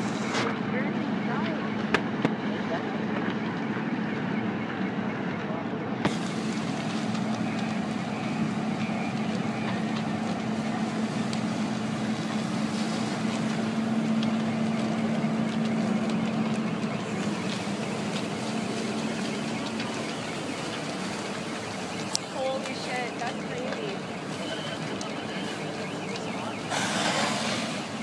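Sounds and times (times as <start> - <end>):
constant rushing noise: 0.0 - 28.0
engine drone: 0.0 - 28.0.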